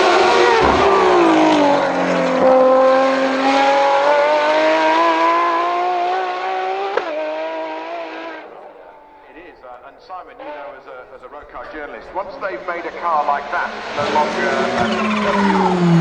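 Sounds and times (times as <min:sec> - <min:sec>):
car engine passing at speed: 0:00.0 - 0:09.2, 0:10.4 - 0:10.9, 0:12.1 - 0:16.0.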